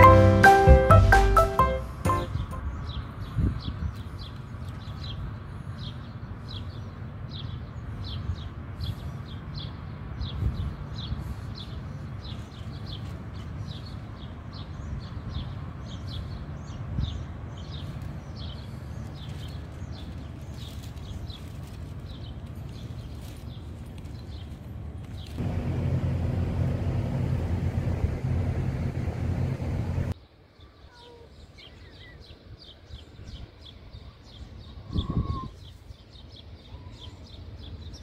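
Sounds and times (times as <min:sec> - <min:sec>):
low outdoor rumble: 0:00.0 - 0:30.7.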